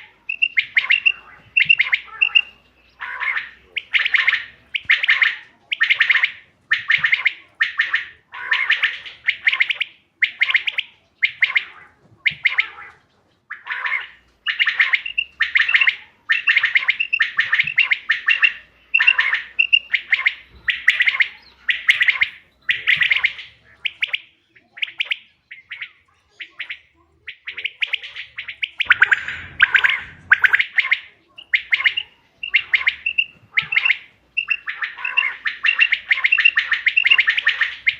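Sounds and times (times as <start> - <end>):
quail calling: 0.0 - 37.9.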